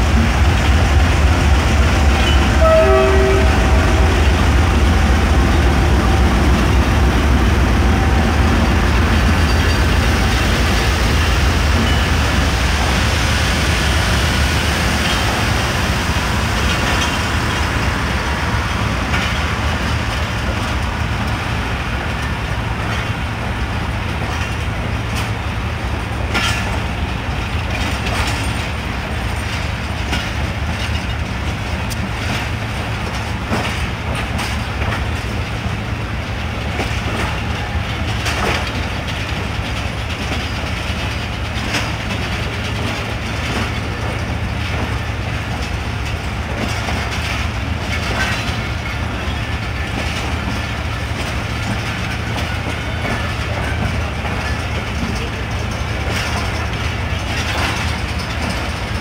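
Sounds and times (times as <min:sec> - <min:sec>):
train coaches rumbling: 0:00.0 - 0:59.0
wheels clacking over rail joints: 0:00.0 - 0:59.0.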